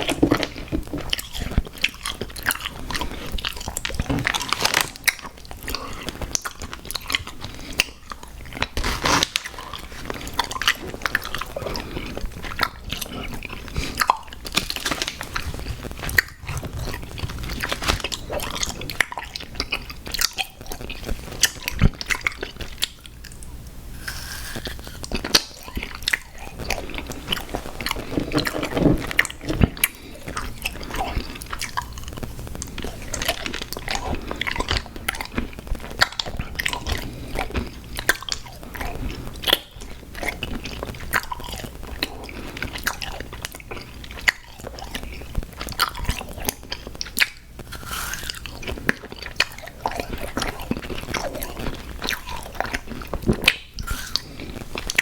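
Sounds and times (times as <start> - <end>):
chewing and crunching candy: 0.0 - 55.0.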